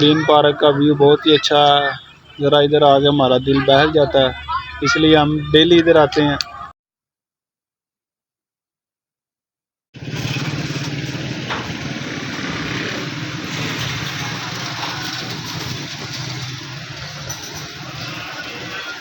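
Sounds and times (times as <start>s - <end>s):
vehicle engine humming: 0.0s - 6.7s, 10.0s - 19.0s.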